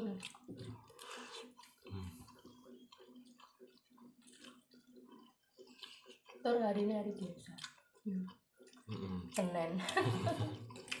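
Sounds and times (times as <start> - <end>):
chewing mouth noises: 0.0 - 11.0.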